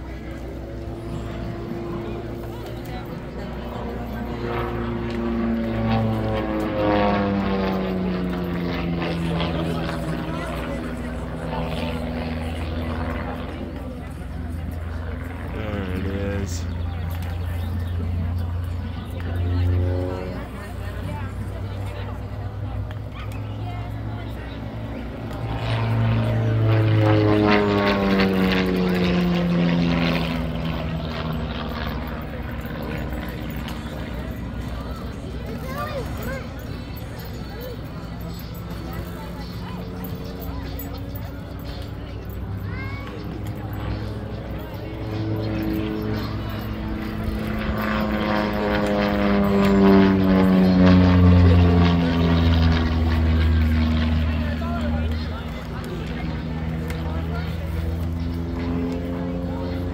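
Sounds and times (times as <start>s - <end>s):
propeller plane engine passing by: 0.0s - 59.9s.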